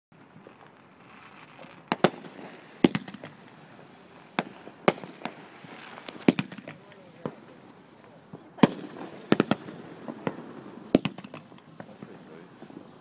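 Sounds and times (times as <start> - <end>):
fireworks bangs: 0.2 - 13.0
fireworks crackling: 0.2 - 13.0.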